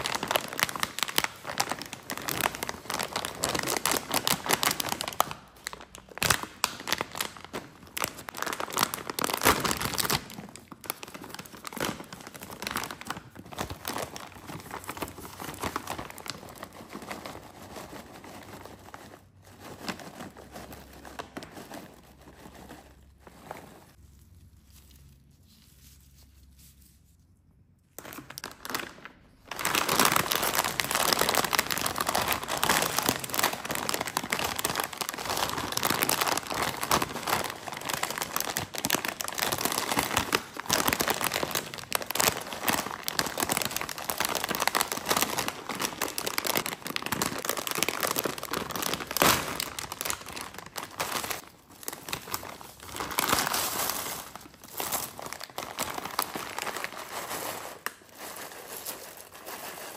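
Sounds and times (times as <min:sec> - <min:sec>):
snack bag crinkling: 0:00.0 - 0:24.4, 0:28.0 - 0:59.9.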